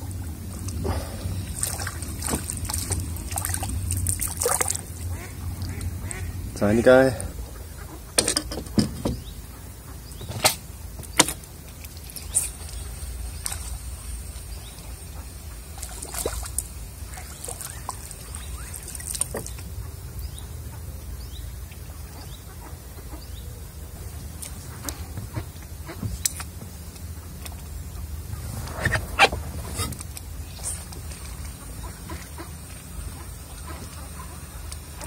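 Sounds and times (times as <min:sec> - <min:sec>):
low steady rumble: 0:00.0 - 0:35.0
pond water trickling and splashing: 0:00.0 - 0:35.0.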